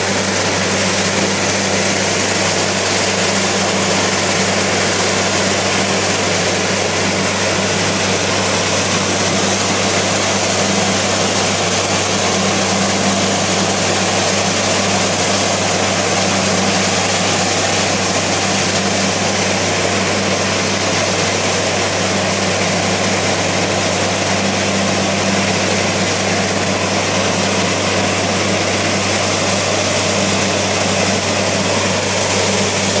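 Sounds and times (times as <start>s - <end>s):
hiss of gushing water: 0.0s - 33.0s
low engine drone: 0.0s - 33.0s.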